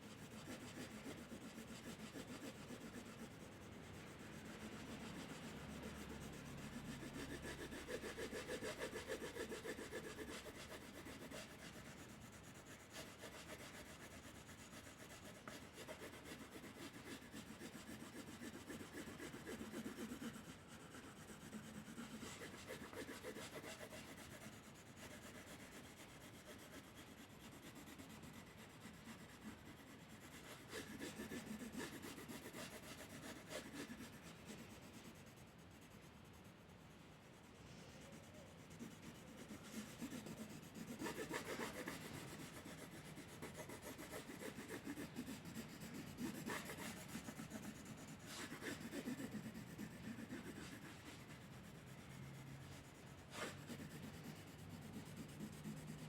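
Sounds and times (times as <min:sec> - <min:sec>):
drawing tool scratching paper: 0:00.0 - 0:56.0.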